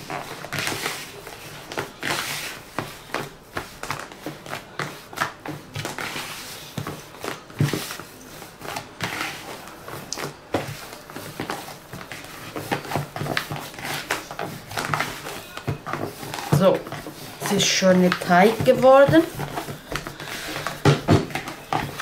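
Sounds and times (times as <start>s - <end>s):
hands kneading cookie dough: 0.0s - 22.0s.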